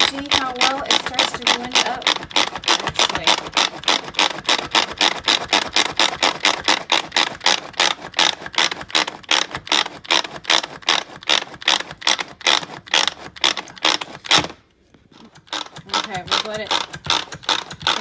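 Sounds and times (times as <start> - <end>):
food processor ratcheting: 0.0 - 18.0.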